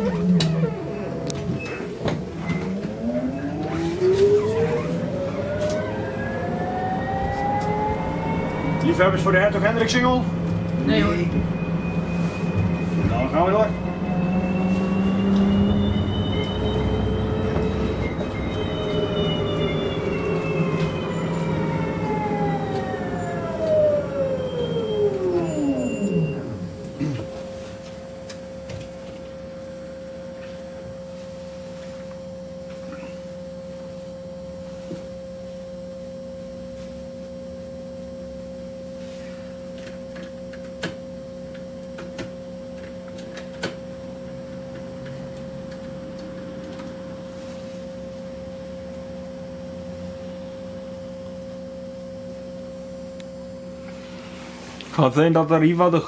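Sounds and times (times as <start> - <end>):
electrical hum with high whine: 0.0 - 56.0.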